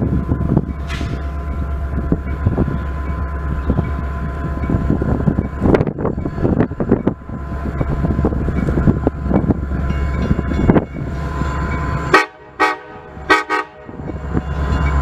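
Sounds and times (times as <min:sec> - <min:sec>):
distant train rumble: 0:00.0 - 0:15.0
wind buffeting microphone: 0:00.0 - 0:15.0.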